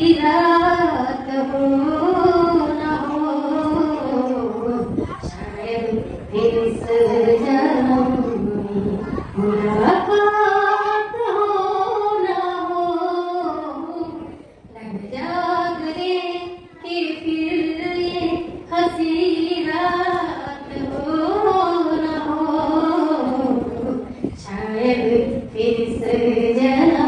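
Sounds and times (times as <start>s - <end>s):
woman singing unaccompanied: 0.0s - 27.0s.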